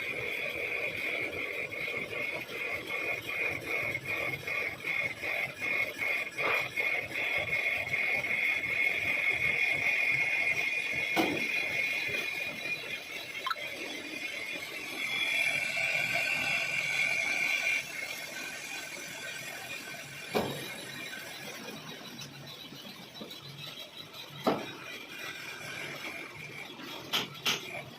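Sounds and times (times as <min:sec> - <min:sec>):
lathe cutting squeal: 0:01.4 - 0:27.9.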